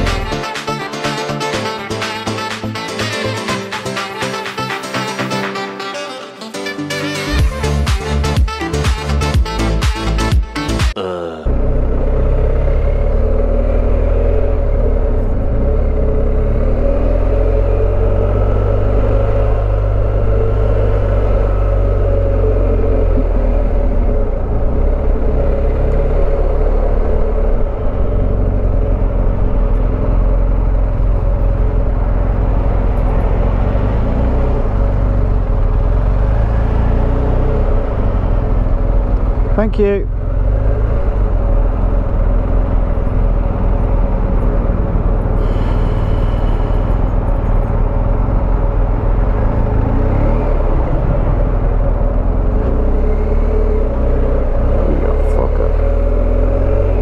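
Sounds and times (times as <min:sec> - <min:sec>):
motorcycle engine running: 0:07.4 - 0:57.0
traffic rumble: 0:10.9 - 0:57.0.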